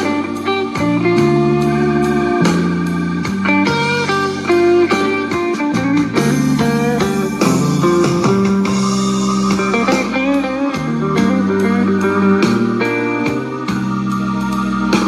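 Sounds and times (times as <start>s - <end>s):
guitar music with strong bass: 0.0s - 15.0s.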